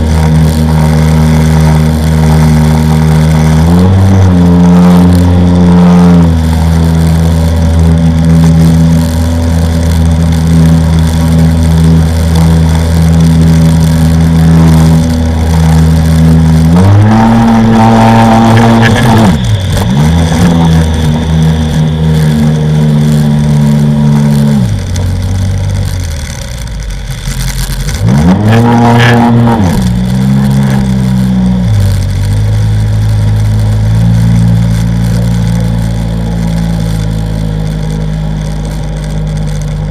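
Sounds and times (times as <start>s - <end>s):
watercraft engine revving: 0.0s - 39.9s.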